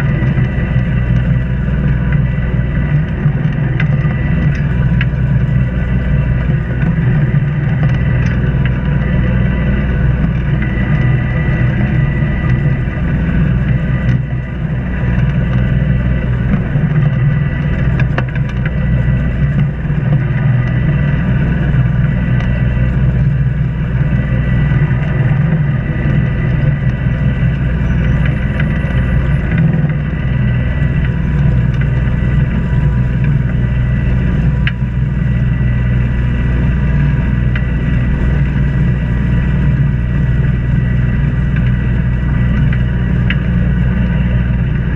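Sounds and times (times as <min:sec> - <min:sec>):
boat engine humming: 0:00.0 - 0:44.9.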